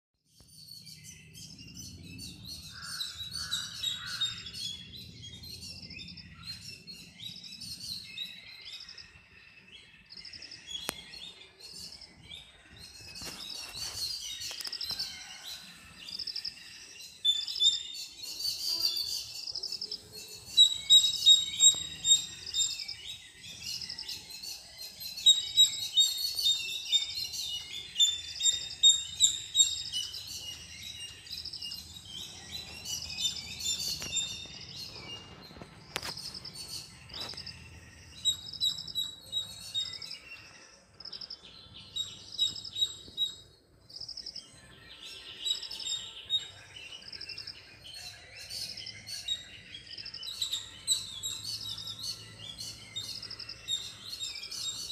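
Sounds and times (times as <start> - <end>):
small birds chirping: 0.2 - 54.9.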